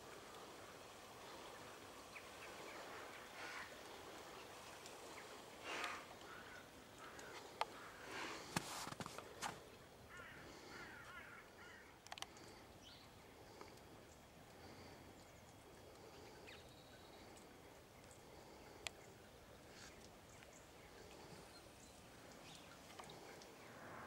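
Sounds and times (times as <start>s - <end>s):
faint bird calls: 0.1s - 24.0s.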